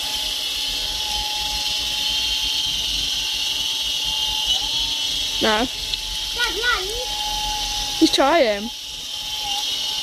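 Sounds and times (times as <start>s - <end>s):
rc helicopter rotor whine: 0.0s - 10.0s.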